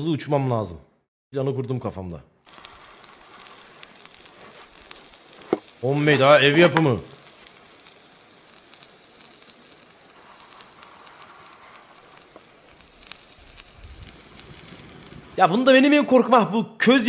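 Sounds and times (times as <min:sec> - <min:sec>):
wood fire crackling: 0:02.4 - 0:16.4.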